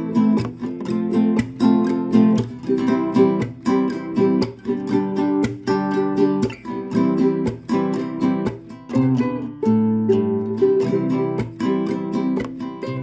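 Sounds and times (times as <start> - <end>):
strummed string instrument chords: 0.0 - 13.0.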